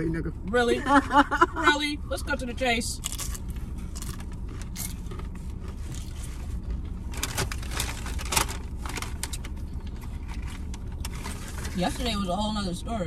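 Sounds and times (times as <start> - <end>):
low car cabin hum: 0.0 - 13.0.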